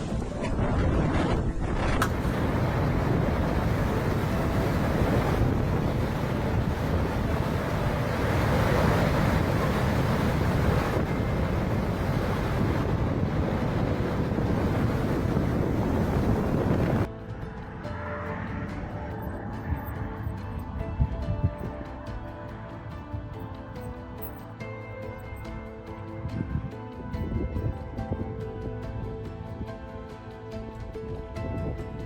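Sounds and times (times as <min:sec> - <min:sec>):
sea waves: 0:00.0 - 0:32.0
wind on microphone: 0:00.0 - 0:32.0.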